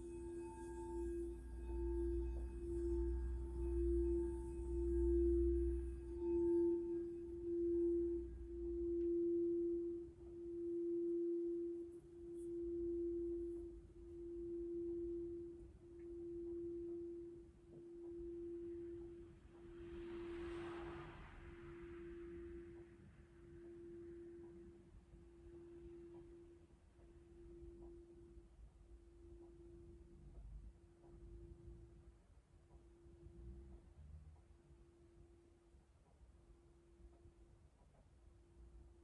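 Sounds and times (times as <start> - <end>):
singing bowl tone: 0.0 - 31.9
low hum: 0.0 - 32.2.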